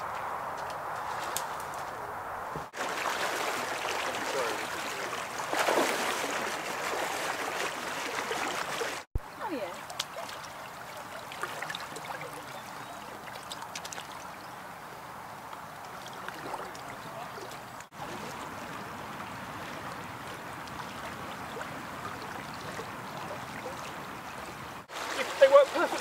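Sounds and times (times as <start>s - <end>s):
river water flowing: 2.7s - 26.0s.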